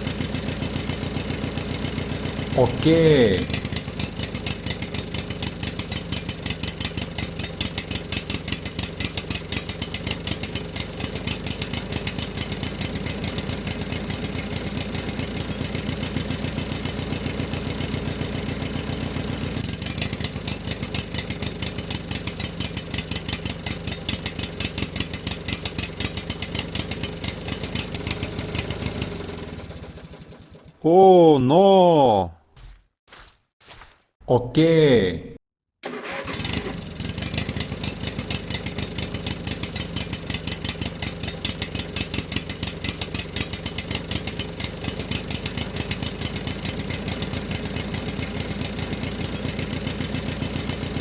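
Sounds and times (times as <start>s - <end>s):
small engine running: 0.0s - 30.8s, 35.9s - 51.0s.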